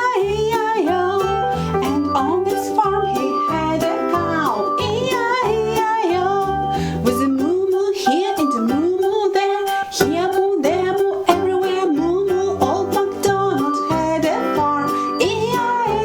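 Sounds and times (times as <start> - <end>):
children's song: 0.0 - 16.0
plucked strumming: 0.0 - 16.0.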